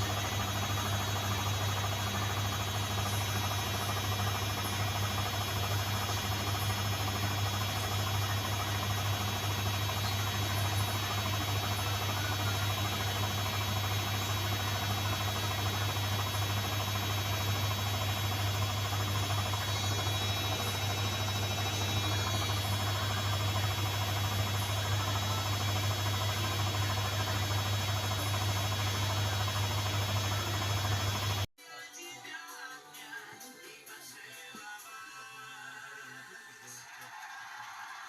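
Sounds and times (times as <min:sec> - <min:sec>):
washing machine humming: 0:00.0 - 0:31.5.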